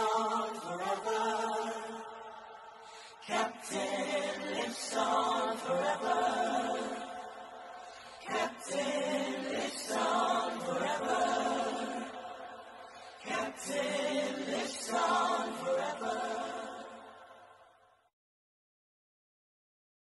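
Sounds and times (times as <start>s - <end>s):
choir singing a chant: 0.0s - 18.0s.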